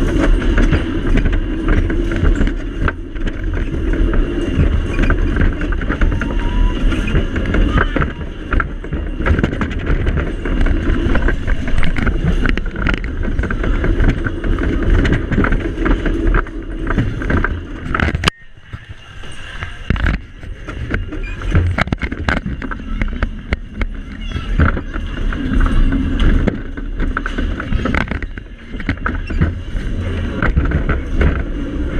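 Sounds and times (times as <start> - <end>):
dodgem car rumbling: 0.0 - 31.9
knocks and clatters: 0.0 - 31.9.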